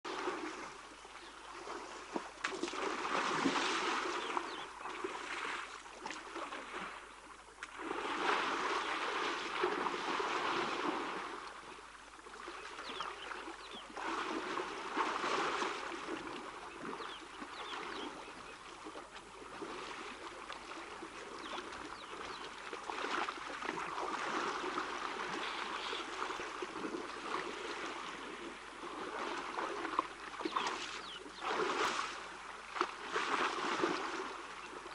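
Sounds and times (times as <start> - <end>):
water sloshing and splashing: 0.1 - 34.9.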